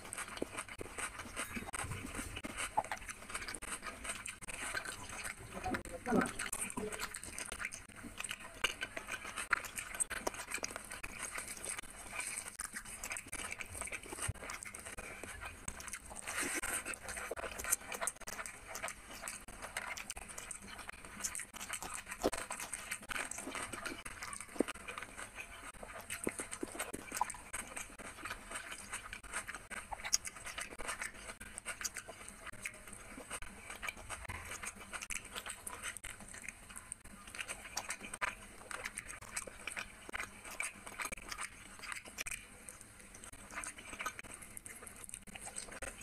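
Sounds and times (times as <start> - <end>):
person chewing and smacking: 0.0 - 46.0.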